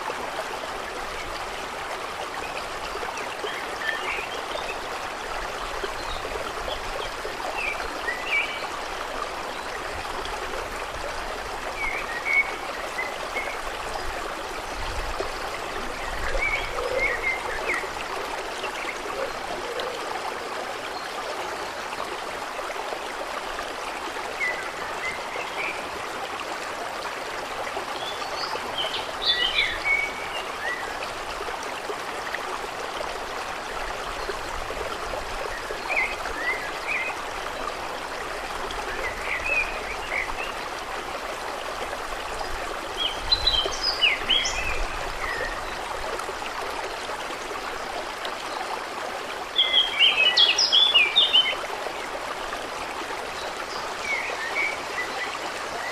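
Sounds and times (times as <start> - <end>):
rushing water: 0.0 - 55.9.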